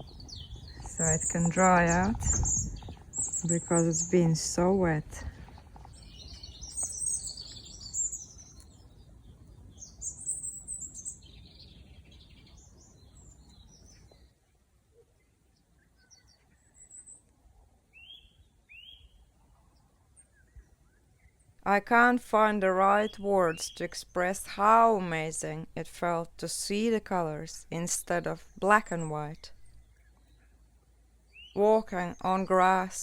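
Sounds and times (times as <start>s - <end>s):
small songbirds chirping: 0.0s - 25.8s, 26.4s - 33.0s
low background noise: 0.0s - 33.0s.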